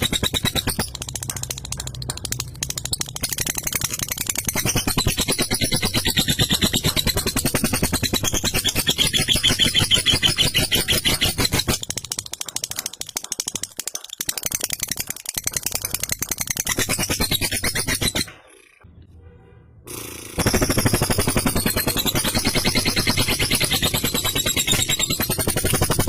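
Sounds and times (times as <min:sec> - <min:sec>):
lovebird rattling chatter: 0:00.0 - 0:18.8, 0:20.0 - 0:26.0.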